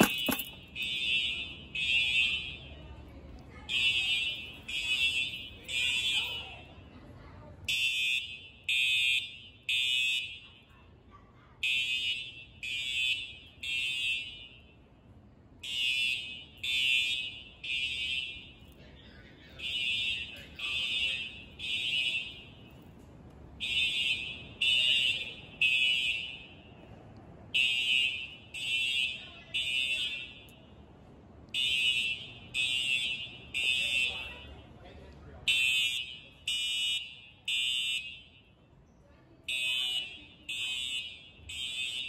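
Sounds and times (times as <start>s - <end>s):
fire alarm horn blasts: 0.0s - 2.8s, 3.7s - 6.8s, 7.6s - 10.7s, 11.6s - 18.8s, 19.5s - 23.0s, 23.6s - 30.9s, 31.5s - 38.8s, 39.4s - 42.0s.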